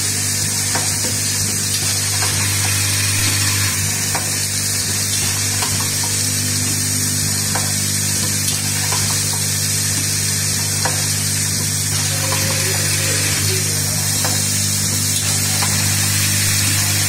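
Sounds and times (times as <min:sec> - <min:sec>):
vibratory bowl feeder buzzing: 0:00.0 - 0:17.0.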